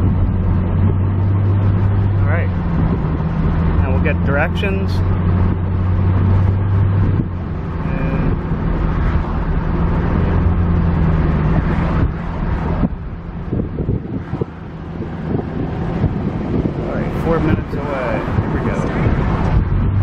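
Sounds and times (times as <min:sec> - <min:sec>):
car engine hum: 0:00.0 - 0:20.0
road and cabin noise: 0:00.0 - 0:20.0.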